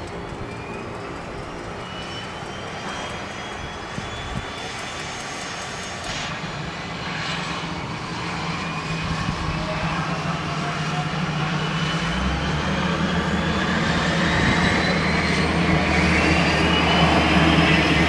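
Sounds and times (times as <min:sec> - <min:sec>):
turboprop engine running: 0:00.0 - 0:18.0.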